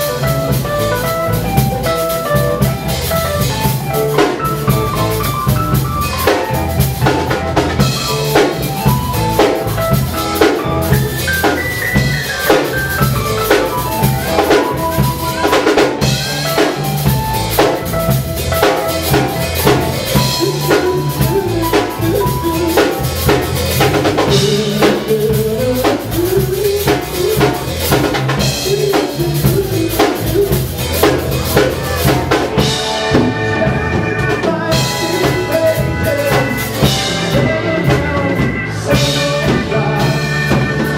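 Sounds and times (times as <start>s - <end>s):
drum strikes: 0.0s - 33.5s
live rock band playing: 0.0s - 40.9s.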